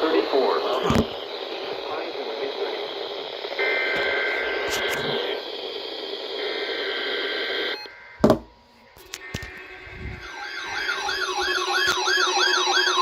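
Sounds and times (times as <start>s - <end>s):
radio static hiss: 0.0s - 8.0s, 8.6s - 13.0s
faint steady tones: 0.0s - 13.0s.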